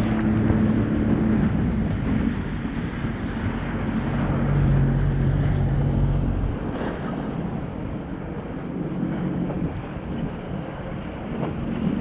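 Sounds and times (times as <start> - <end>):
jet ski engine running: 0.0 - 12.0
water rushing: 0.0 - 12.0
wind buffeting microphone: 0.0 - 12.0.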